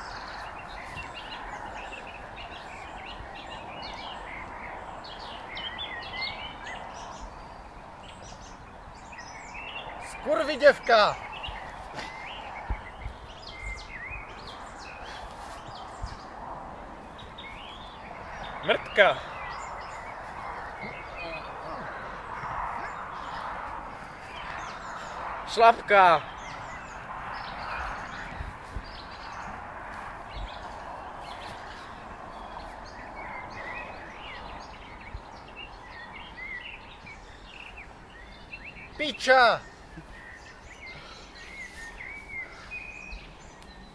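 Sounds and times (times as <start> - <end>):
outdoor background hiss: 0.0 - 43.9
songbirds chirping: 0.0 - 43.9.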